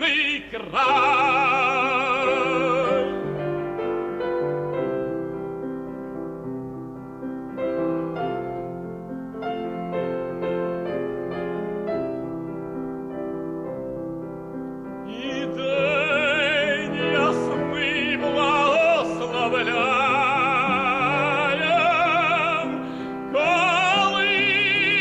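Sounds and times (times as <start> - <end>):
classical solo piano: 0.4 - 25.0.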